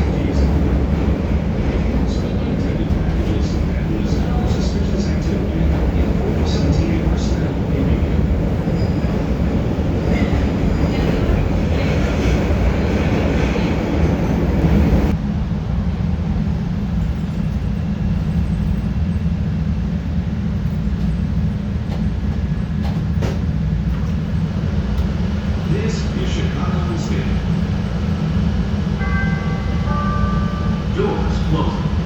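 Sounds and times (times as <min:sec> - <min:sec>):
subway train rumbling in tunnel: 0:00.0 - 0:32.0.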